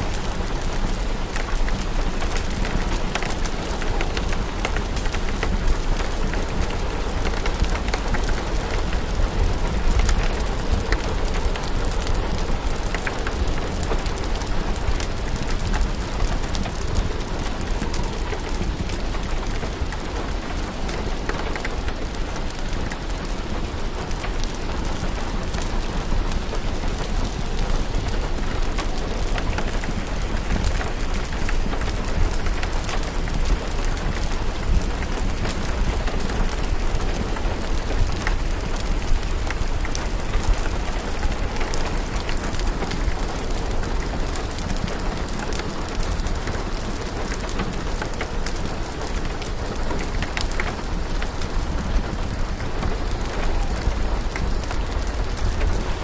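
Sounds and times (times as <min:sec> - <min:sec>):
fire crackling: 0:00.0 - 0:56.0
steady rain: 0:00.0 - 0:56.0.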